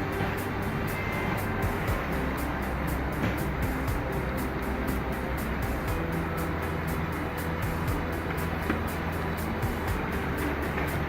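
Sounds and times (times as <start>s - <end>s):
steady low bass: 0.0s - 11.0s.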